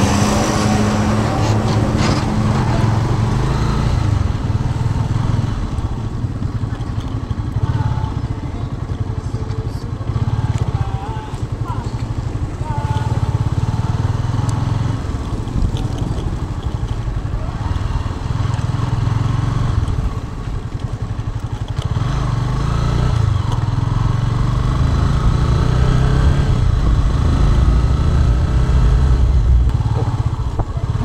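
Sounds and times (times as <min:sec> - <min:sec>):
motorcycle running: 0:00.0 - 0:31.0.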